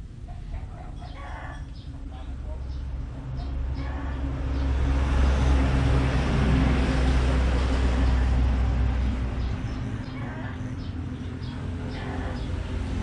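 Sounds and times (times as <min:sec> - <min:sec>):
vehicle passing by: 0:01.8 - 0:13.0.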